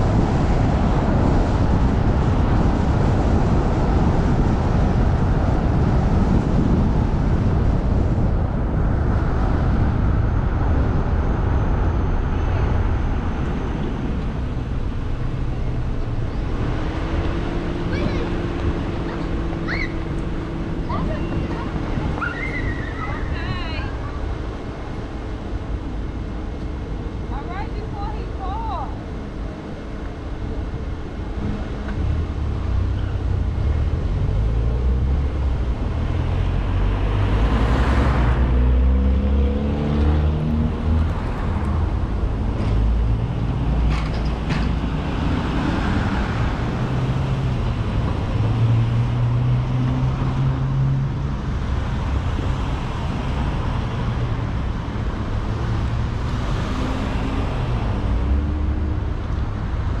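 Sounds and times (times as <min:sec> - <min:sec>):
car engine and road noise: 0:00.0 - 1:00.0.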